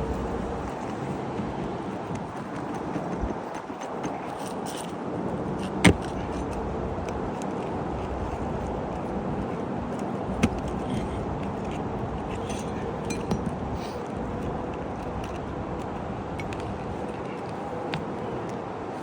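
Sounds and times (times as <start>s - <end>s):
steady rumbling: 0.0s - 4.4s, 5.0s - 18.3s.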